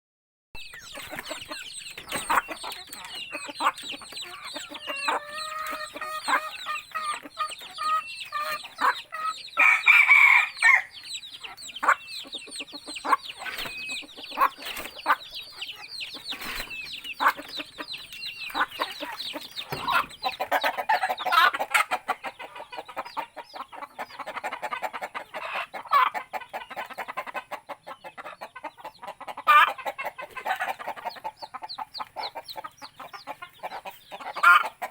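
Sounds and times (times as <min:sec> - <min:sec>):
chickens clucking: 0:00.6 - 0:34.9.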